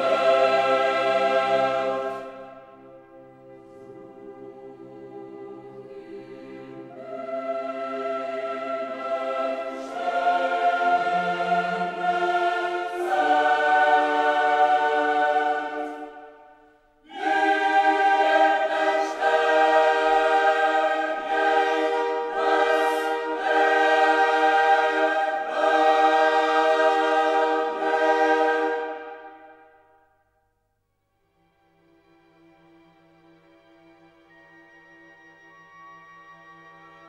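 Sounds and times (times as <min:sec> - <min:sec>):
choral singing: 0:00.0 - 0:30.2.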